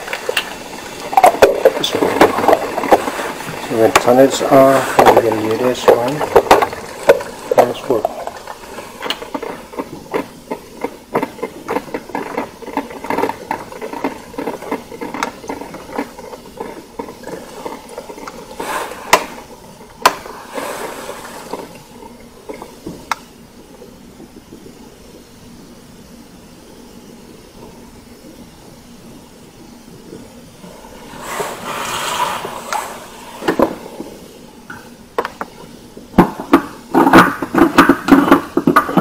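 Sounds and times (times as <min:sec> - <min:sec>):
steam hissing: 0:00.0 - 0:39.0
water gurgling and popping: 0:00.0 - 0:39.0.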